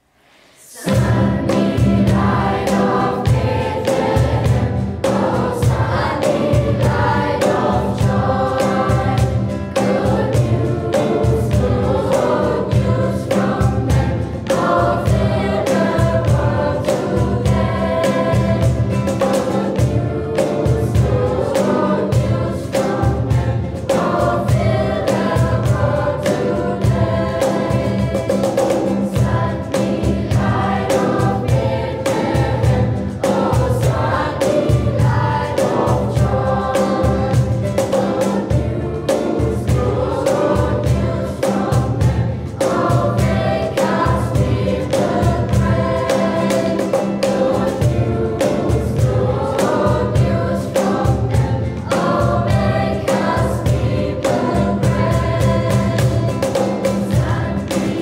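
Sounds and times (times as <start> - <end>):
acoustic guitar: 0.0 - 58.0
choir singing in unison: 0.0 - 58.0
cajon beat: 0.8 - 58.0.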